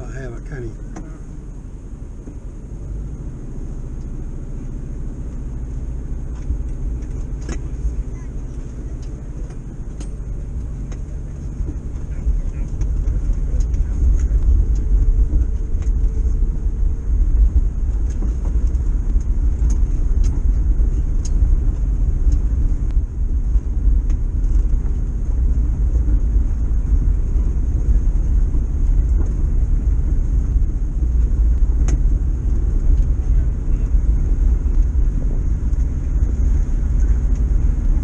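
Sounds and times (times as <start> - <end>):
road noise: 0.0 - 38.0
van engine rumbling: 0.0 - 38.0.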